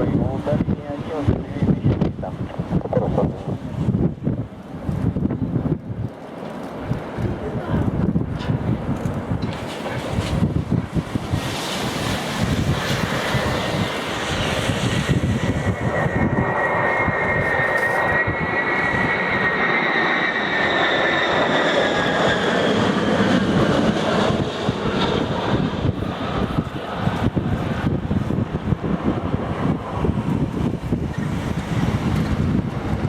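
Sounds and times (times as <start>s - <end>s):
high jet engine whine: 0.0s - 33.0s
jet engine rumble: 0.0s - 33.0s.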